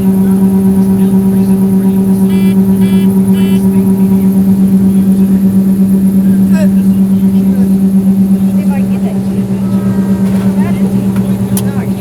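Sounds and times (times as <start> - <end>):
machinery engine humming: 0.0 - 12.0.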